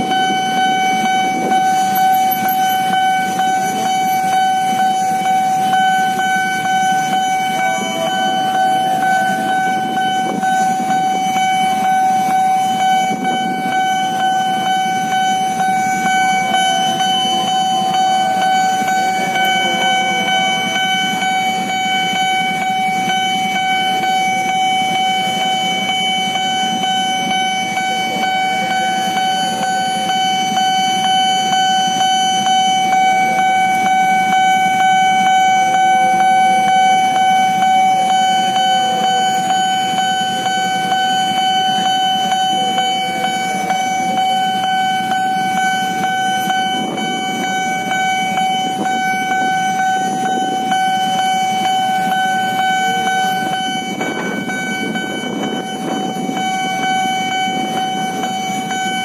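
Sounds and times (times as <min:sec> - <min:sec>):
idling motorcycle and car engines: 0:00.0 - 0:59.0
level crossing alarm tone: 0:00.0 - 0:59.0.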